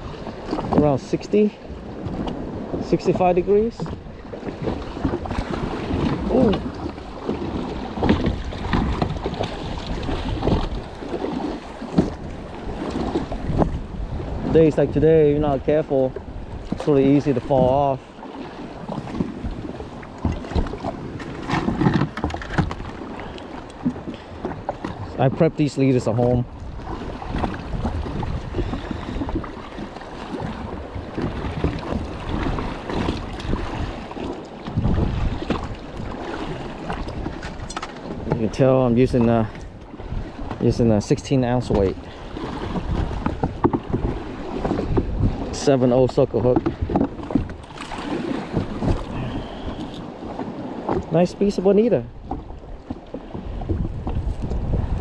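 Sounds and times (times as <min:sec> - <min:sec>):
water slapping against hull: 0:00.0 - 0:55.0
wind buffeting microphone: 0:00.0 - 0:55.0.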